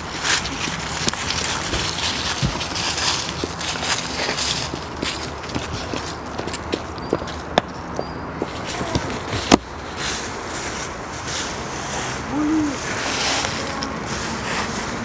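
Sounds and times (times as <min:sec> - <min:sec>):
footsteps in dry leaves: 0:00.0 - 0:07.5, 0:08.4 - 0:15.0.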